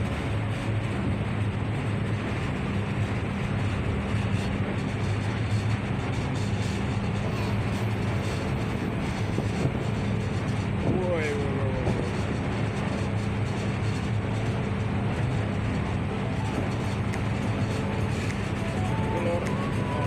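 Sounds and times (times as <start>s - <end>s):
ship engine droning: 0.0s - 20.0s.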